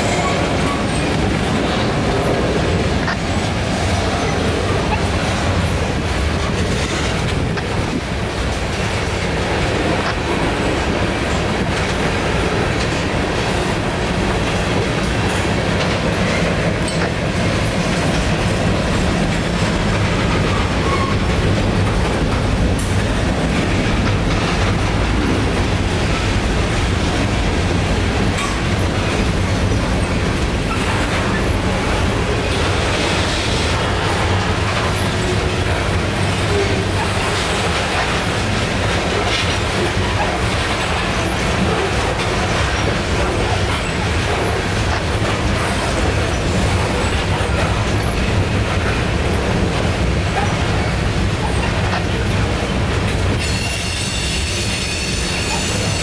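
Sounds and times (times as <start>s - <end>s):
freight train rolling past: 0.0s - 56.0s
steel wheels clattering on rails: 0.0s - 56.0s.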